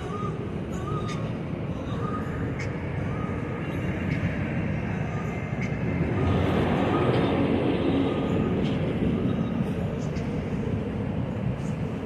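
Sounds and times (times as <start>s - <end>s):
boat engine rumble and rush: 0.0s - 12.0s.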